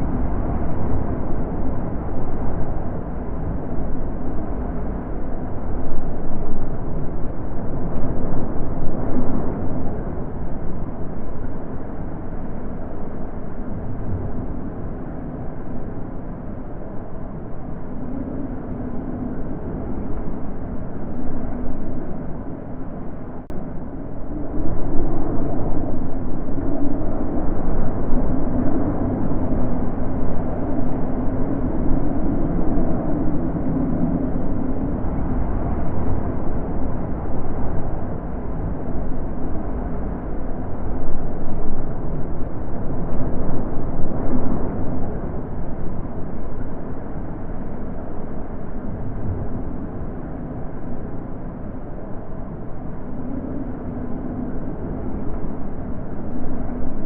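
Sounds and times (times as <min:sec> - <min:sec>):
wind blowing in gusts: 0:00.0 - 0:57.0.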